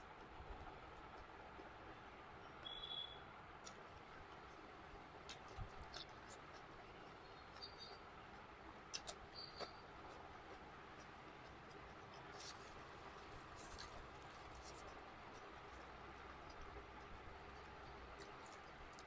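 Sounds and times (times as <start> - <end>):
chewing clicks and smacks: 0.0 - 3.0, 3.6 - 19.0.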